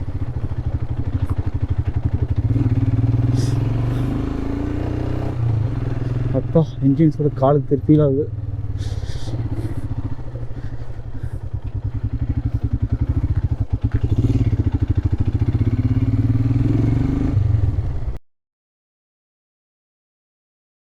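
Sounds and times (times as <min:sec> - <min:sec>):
motorcycle engine pulsing: 0:00.0 - 0:18.2.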